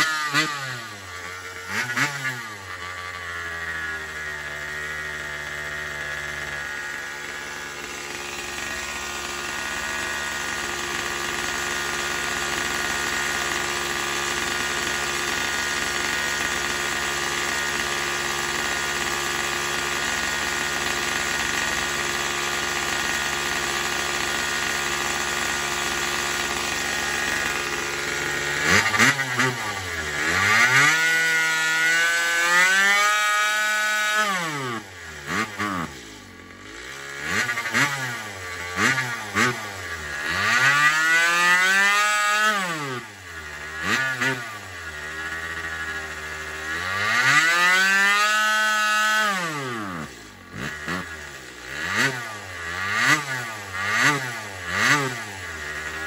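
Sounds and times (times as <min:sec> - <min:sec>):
chainsaw engine idling and revving: 0:00.0 - 0:56.0.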